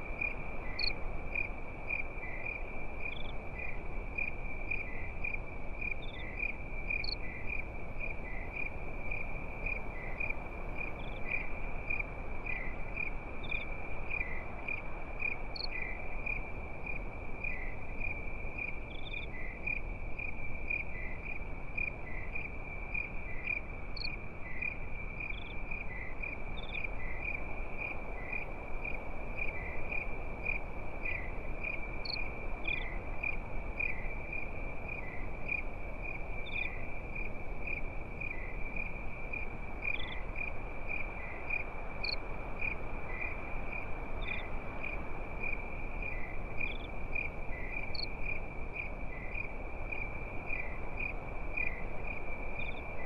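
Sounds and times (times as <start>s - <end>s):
constant low hiss: 0.0s - 53.0s
crickets chirping: 0.0s - 53.0s.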